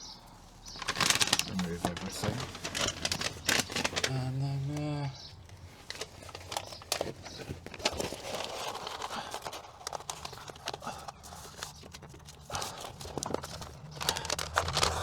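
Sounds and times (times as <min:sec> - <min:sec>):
insulation sheet rustling and crinkling: 0:00.2 - 0:15.0
backing paper peeling: 0:00.6 - 0:15.0.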